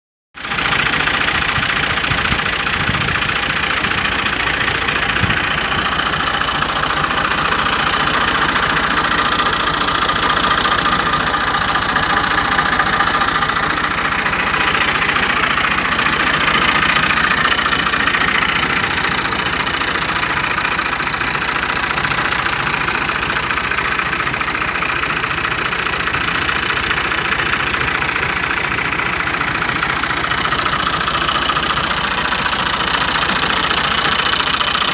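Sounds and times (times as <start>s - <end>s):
tractor diesel engine idling: 0.4s - 34.9s.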